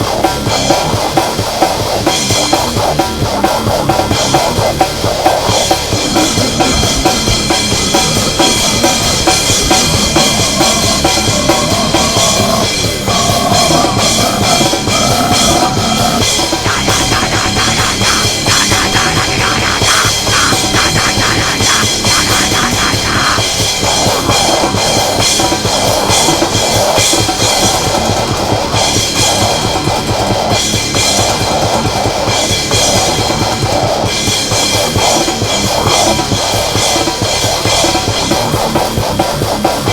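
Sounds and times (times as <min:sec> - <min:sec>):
heavy distorted music with drums: 0:00.0 - 0:39.9.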